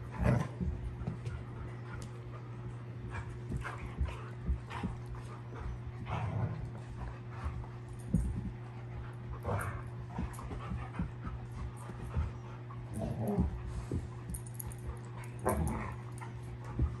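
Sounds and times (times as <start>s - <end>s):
dogs scuffling and bumping: 0.0s - 17.0s
steady low hum: 0.0s - 17.0s.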